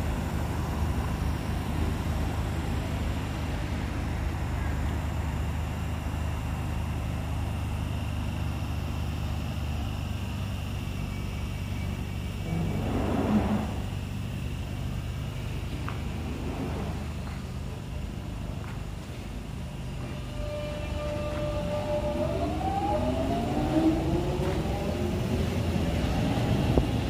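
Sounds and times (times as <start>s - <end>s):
faint high whine: 0.0s - 27.0s
standing train hum and rumble: 0.0s - 27.0s.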